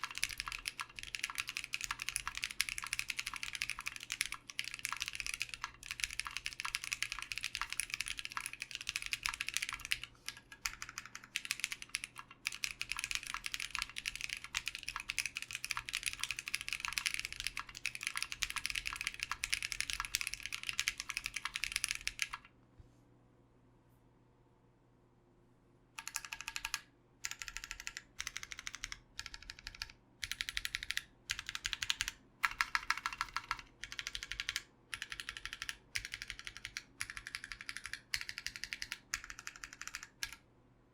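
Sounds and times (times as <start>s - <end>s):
fast typing on mechanical keyboard: 0.0s - 22.5s, 26.0s - 40.4s.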